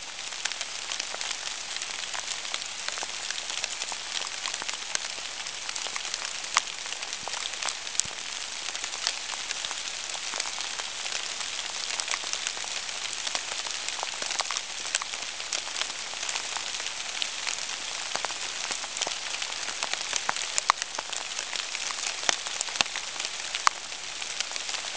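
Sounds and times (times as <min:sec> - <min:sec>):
rain falling on leaves: 0:00.0 - 0:24.9.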